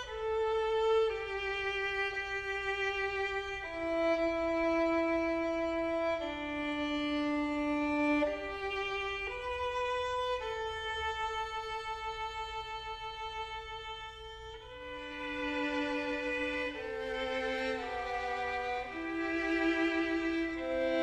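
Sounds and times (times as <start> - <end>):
slow violin melody: 0.0 - 21.0.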